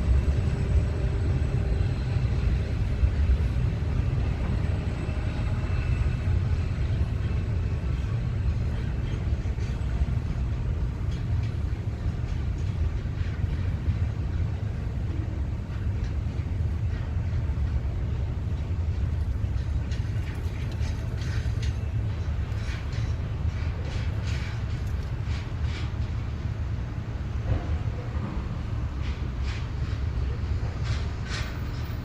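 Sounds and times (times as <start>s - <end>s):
locomotive low rumble: 0.0s - 32.0s.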